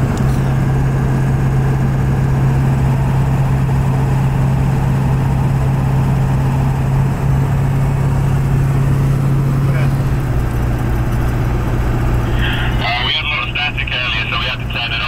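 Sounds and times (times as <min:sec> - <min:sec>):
low engine hum: 0:00.0 - 0:15.0
road and tyre noise: 0:00.0 - 0:15.0.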